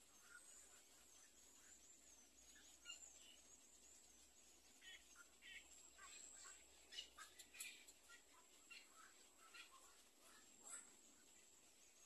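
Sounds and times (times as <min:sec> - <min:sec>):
soft rapid chirping: 0:00.0 - 0:12.0.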